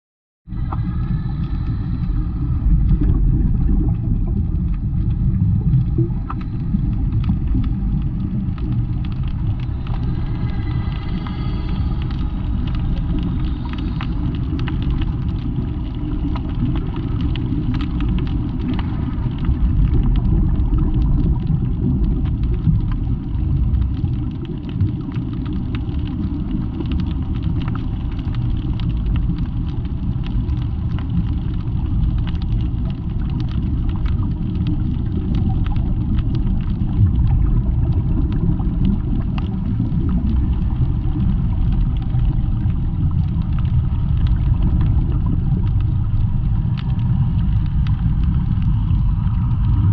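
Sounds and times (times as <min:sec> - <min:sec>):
underwater rumble and bubbles: 0:00.4 - 0:49.9.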